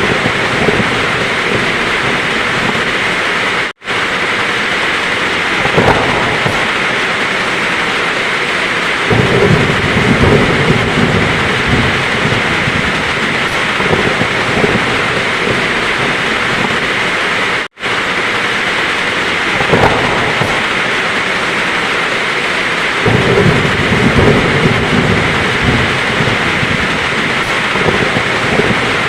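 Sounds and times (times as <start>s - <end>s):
heavy rain: 0.0s - 29.0s
rolling thunder: 0.0s - 29.0s.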